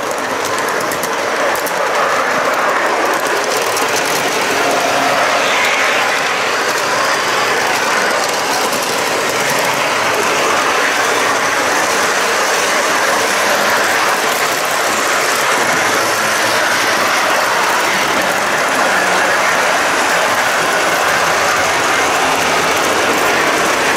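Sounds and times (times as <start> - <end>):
model train wheels on metal track: 0.0 - 23.9.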